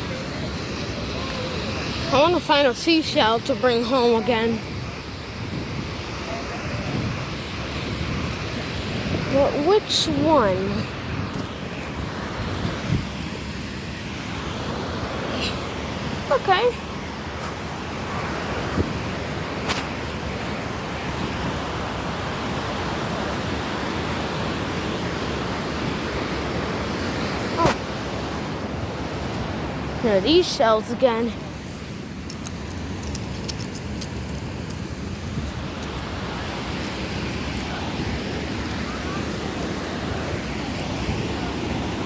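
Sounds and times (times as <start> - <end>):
ocean surf washing onto beach: 0.0 - 42.0
wind noise on microphone: 0.0 - 42.0.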